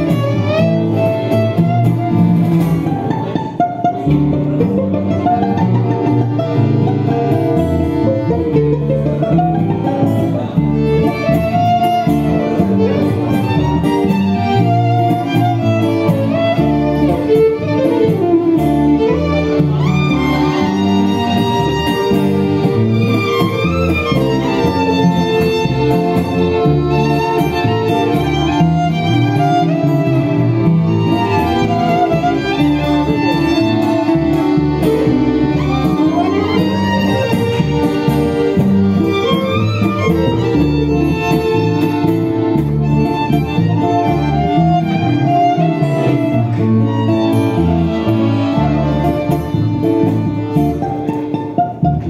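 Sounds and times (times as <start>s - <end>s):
acoustic guitar: 0.0s - 52.0s
double bass: 0.0s - 52.0s
violin melody with sliding notes: 0.0s - 52.0s.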